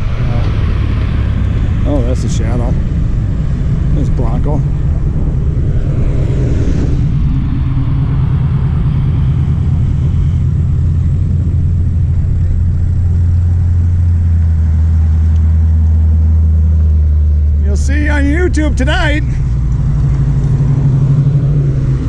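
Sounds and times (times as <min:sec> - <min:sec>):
car engine running: 0:00.0 - 0:22.0
road noise: 0:00.0 - 0:22.0.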